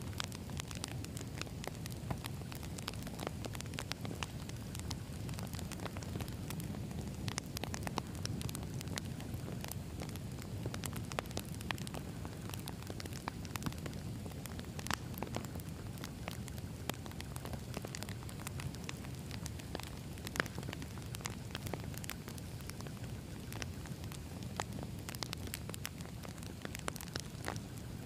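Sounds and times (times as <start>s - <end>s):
campfire crackling: 0.0s - 28.0s
low rumble of flames: 0.0s - 28.0s
sharp pops and snaps: 0.0s - 28.0s.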